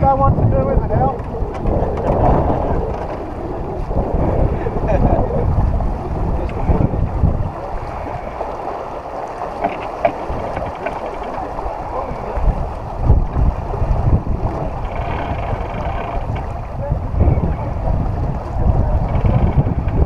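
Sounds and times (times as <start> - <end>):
rushing wind and water: 0.0 - 20.0
wind buffeting microphone: 0.0 - 20.0.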